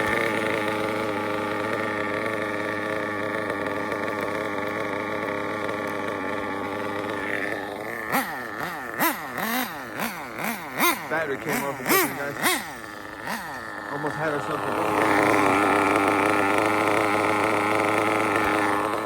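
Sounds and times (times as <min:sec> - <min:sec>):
nitro engine revving: 0:00.0 - 0:19.0.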